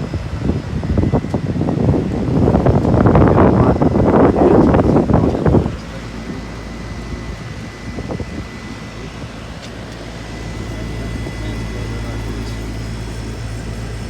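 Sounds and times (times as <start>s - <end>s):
heat pump hum: 0.0s - 14.0s
high whine: 0.0s - 14.0s
wind noise on microphone: 0.0s - 14.0s.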